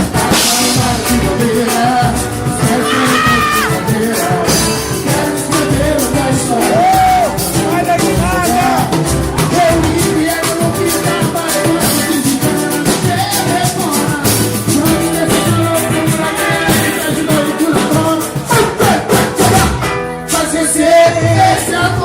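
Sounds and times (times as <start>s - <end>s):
drum beat: 0.0s - 20.0s
percussion: 0.0s - 22.0s
person singing: 0.0s - 22.0s.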